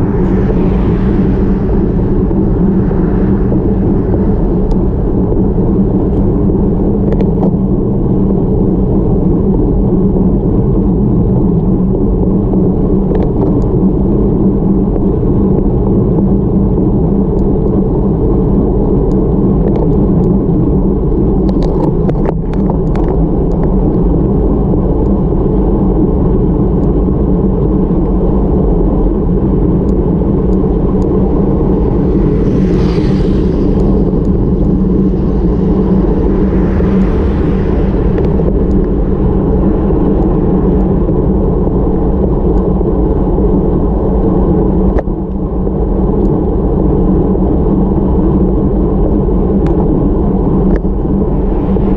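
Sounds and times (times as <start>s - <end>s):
wind rumble on microphone: 0.0s - 51.9s.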